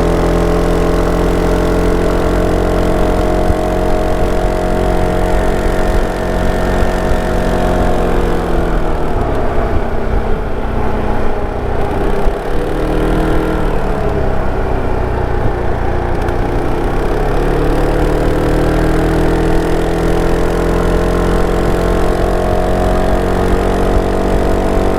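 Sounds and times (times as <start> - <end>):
scooter engine running: 0.0 - 24.9.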